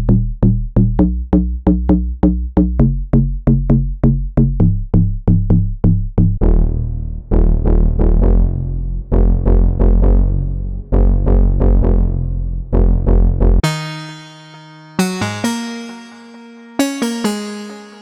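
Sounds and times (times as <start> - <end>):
synthesizer bass riff: 0.0 - 18.0.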